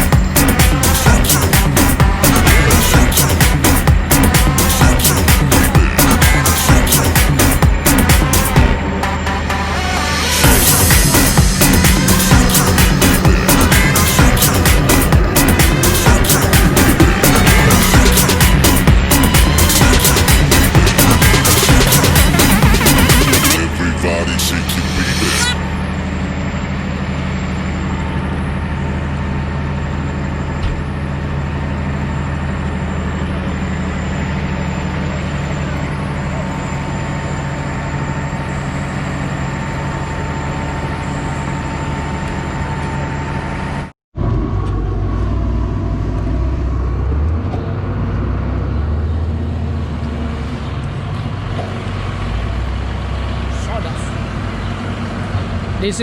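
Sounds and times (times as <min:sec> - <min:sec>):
deep heavy engine: 0:00.0 - 0:56.0
farm machine engine running: 0:00.0 - 0:56.0.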